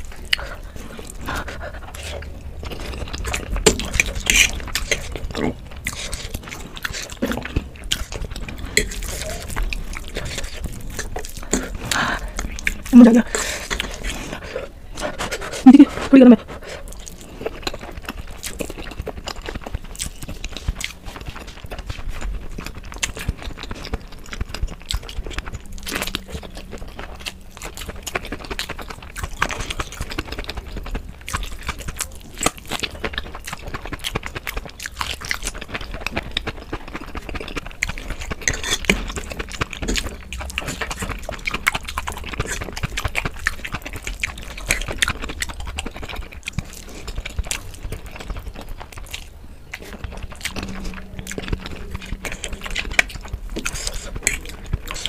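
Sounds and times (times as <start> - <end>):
biting into fried food: 0.0 - 55.0
chewing noodles: 0.0 - 55.0.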